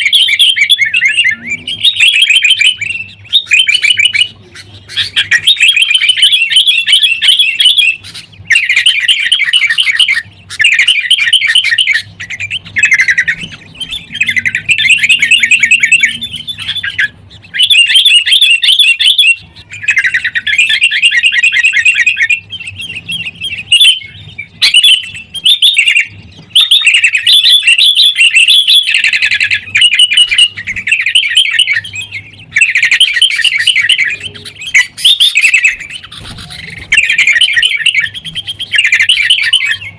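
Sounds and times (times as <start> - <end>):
bulbuls chattering calls: 0.0 - 39.9.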